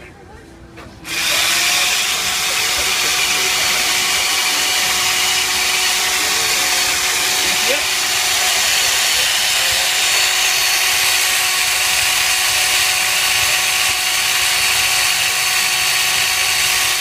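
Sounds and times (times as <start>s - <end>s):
small electric motor humming: 1.0s - 17.0s.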